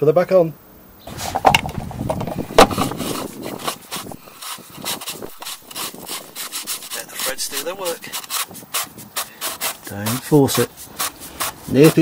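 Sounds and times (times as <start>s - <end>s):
glove rubbing on cap threads: 1.2s - 12.0s.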